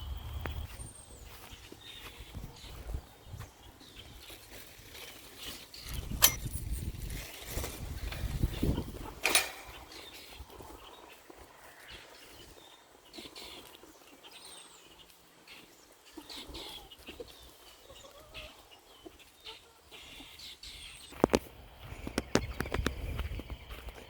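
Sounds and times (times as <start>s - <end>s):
birds chirping: 0.0s - 24.0s
chickens clucking: 0.2s - 6.4s, 7.0s - 24.0s.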